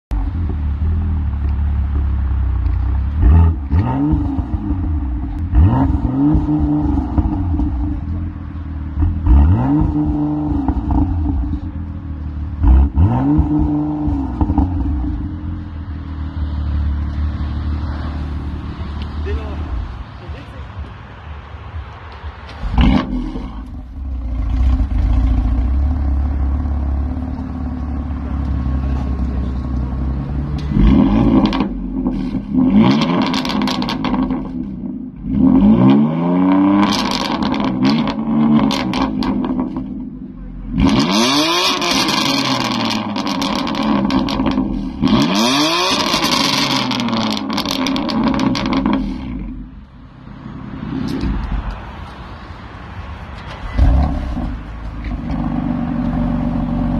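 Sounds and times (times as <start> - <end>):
car engine revving: 0.1 - 52.6, 53.4 - 56.9.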